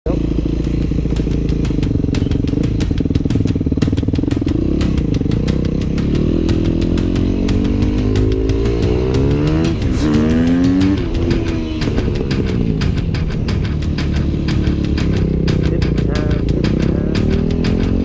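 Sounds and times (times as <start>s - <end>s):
motorcycle engine running: 0.1s - 18.0s.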